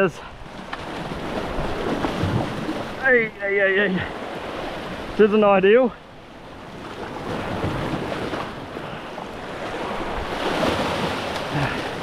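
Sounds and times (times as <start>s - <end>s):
ocean waves on rocky shore: 0.0s - 12.0s.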